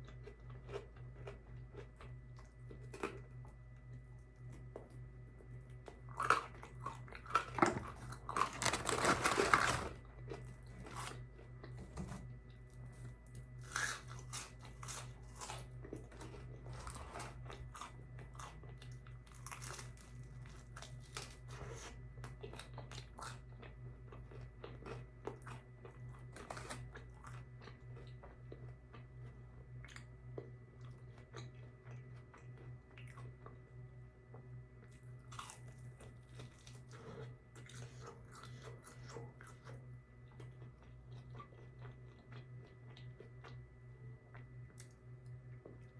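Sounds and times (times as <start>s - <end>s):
person chewing crispy food: 0.0s - 45.9s
steady low hum: 0.0s - 45.9s.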